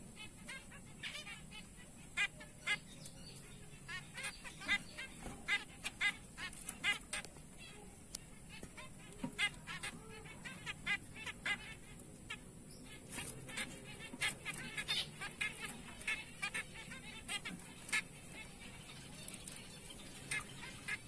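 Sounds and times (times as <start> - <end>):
finches calling: 0.0 - 21.0.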